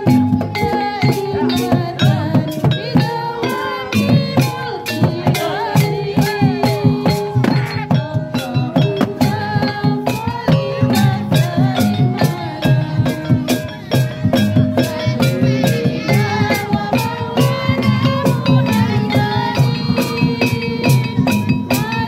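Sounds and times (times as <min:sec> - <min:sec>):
fast drum and percussion beat: 0:00.0 - 0:22.0
wavering held melody: 0:00.0 - 0:22.0.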